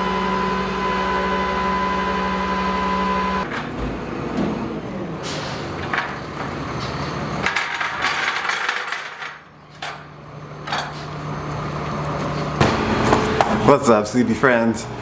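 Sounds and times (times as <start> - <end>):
vehicle engine whining: 0.0 - 7.4, 10.2 - 15.0.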